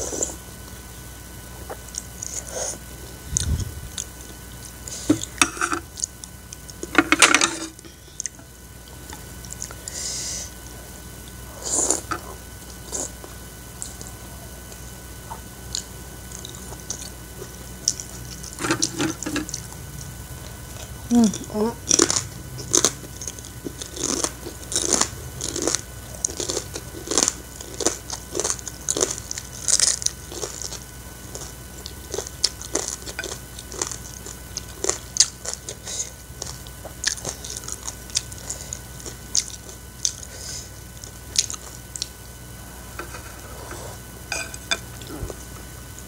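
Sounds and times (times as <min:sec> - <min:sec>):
person chewing noodles: 0:01.6 - 0:10.0, 0:11.2 - 0:45.5.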